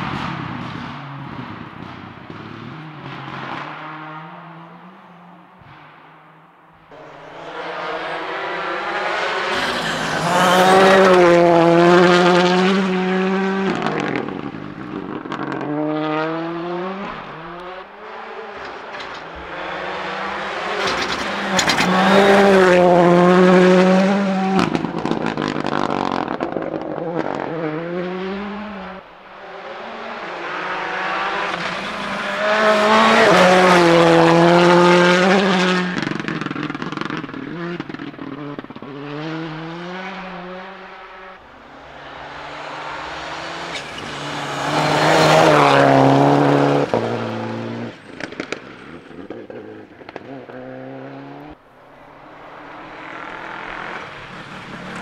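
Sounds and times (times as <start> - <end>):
rally car engines revving past: 0.0 - 55.0.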